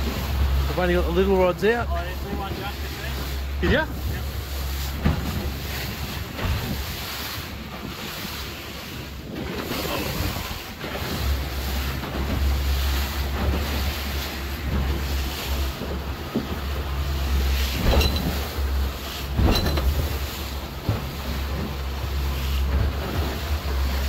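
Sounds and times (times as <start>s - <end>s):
outboard motor drone: 0.0s - 24.0s
water rushing past boat hull: 0.0s - 24.0s
wind buffeting microphone: 0.0s - 24.0s.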